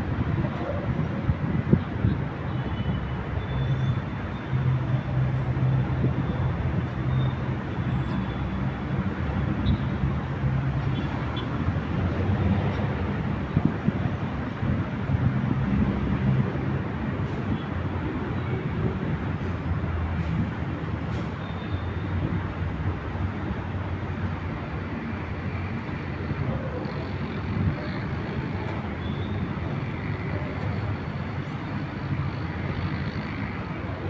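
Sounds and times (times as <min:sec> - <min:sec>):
traffic rumble: 0:00.0 - 0:34.0
heavy vehicle engine hum: 0:04.1 - 0:34.0.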